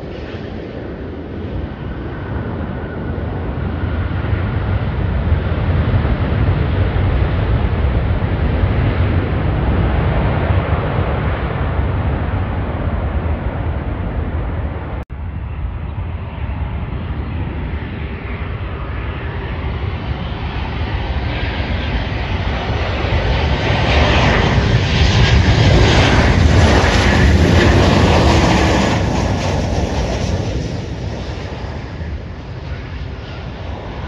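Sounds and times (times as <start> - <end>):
jet engines passing: 0.0 - 34.0.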